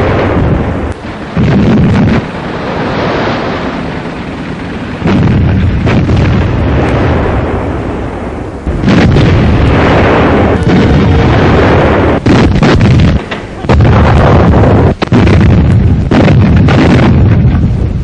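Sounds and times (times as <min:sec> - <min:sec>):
naval guns firing: 0:00.0 - 0:17.9
long loud rumble: 0:00.0 - 0:18.0.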